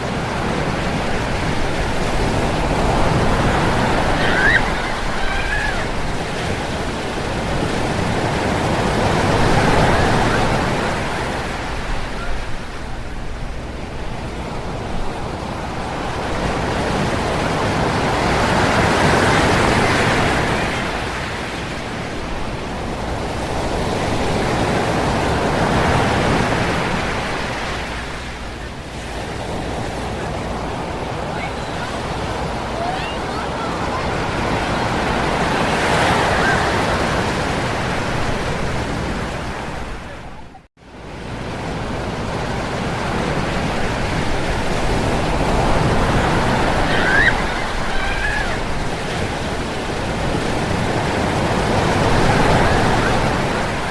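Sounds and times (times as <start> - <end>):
ocean surf breaking on beach: 0.0 - 53.9.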